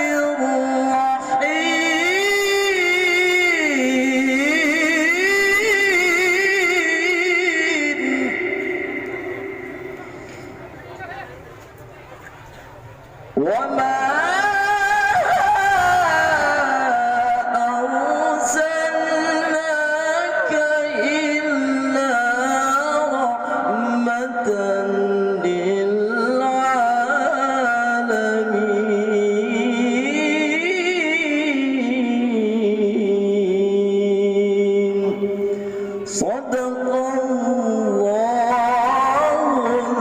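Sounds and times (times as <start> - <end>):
man reciting melodically: 0.0 - 11.4, 13.3 - 40.0.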